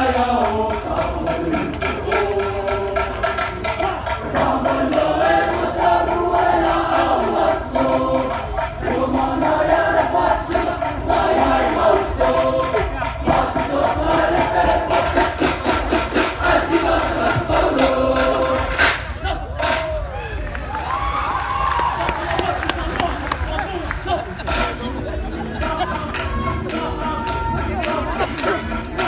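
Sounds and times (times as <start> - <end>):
male group singing and chanting: 0.0 - 20.0, 22.2 - 29.0.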